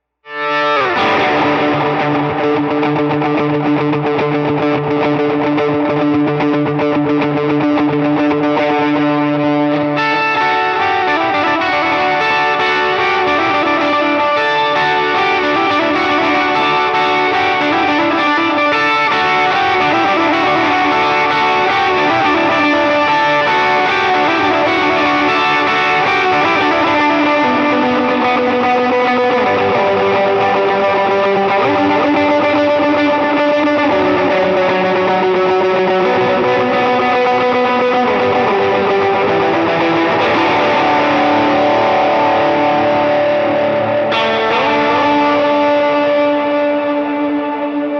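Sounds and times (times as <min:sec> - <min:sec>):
overdriven electric guitar lead: 0:00.0 - 0:47.9.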